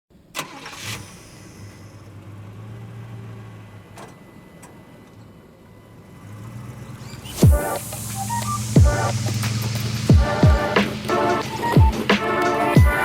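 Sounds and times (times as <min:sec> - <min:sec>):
electric motor humming: 0:01.6 - 0:12.1.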